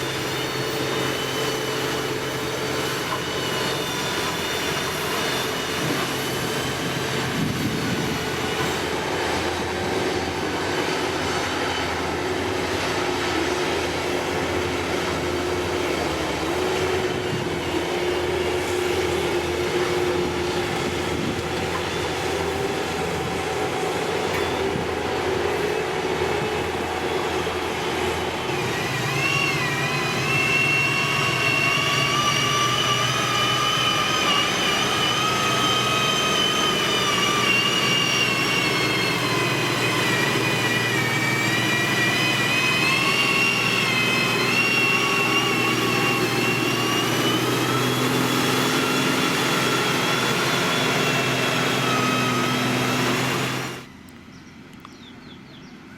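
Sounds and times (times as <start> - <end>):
heavy diesel machinery running: 0.0 - 55.8.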